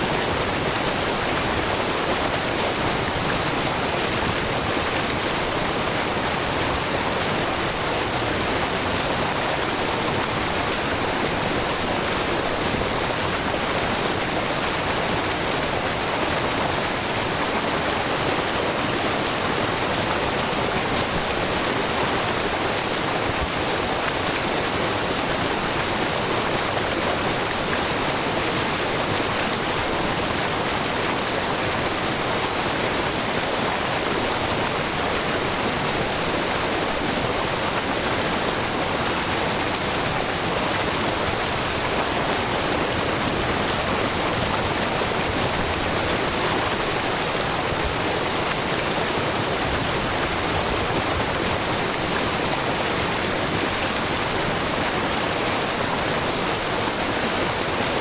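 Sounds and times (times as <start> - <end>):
waterfall splashing into pool: 0.1 - 58.0.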